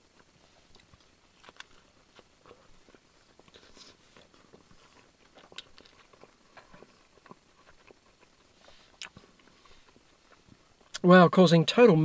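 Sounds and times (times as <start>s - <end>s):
close-up chewing with mouth smacks: 0.0s - 11.1s.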